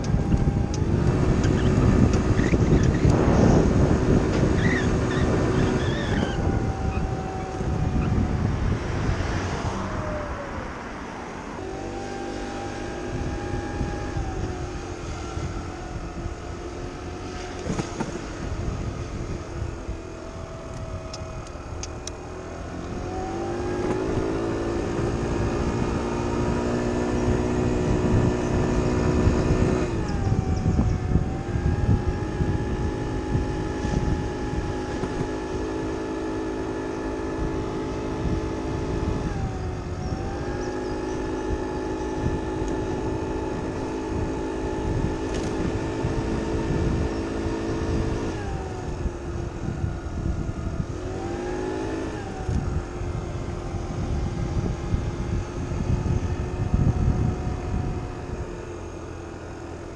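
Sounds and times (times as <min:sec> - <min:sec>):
scooter engine running: 0:00.0 - 0:59.9
wind on microphone: 0:00.0 - 0:59.9.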